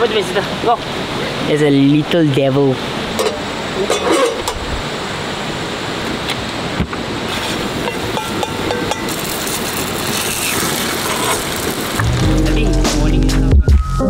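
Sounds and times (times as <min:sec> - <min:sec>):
steady rushing noise: 0:00.0 - 0:13.6.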